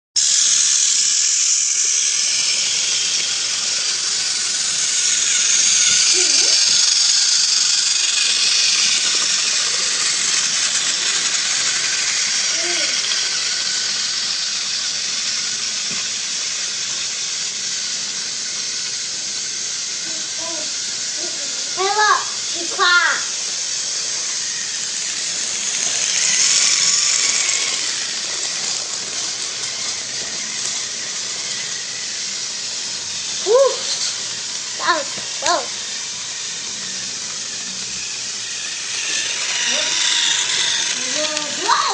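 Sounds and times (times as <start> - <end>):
toy train motor whirring: 0.2 - 41.9.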